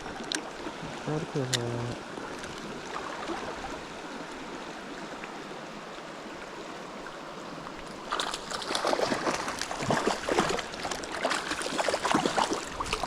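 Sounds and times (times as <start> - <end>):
irregular splashing water: 0.0 - 5.4, 7.1 - 13.0
creek water running: 0.0 - 13.0.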